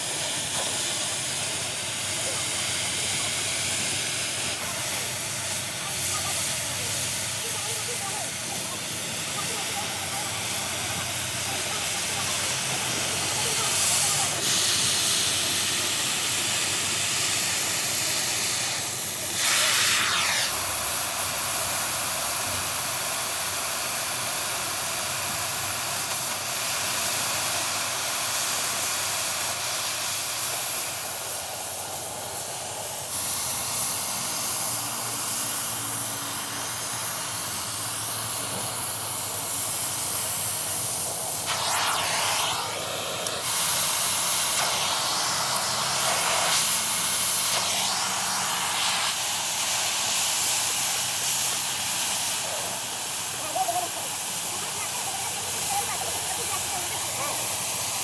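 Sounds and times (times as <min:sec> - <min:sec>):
loud hissing: 0:00.0 - 0:58.0.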